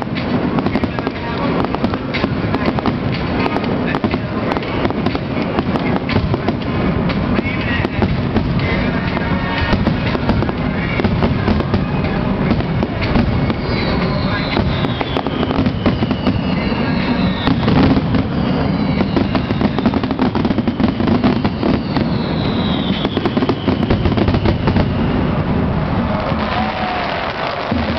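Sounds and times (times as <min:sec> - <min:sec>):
falling firework whistles: 0:00.0 - 0:27.9
fireworks bangs and crackling: 0:00.0 - 0:27.9.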